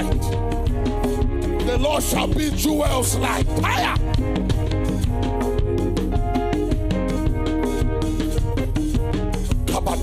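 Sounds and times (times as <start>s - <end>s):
church band playing worship music: 0.0s - 10.0s.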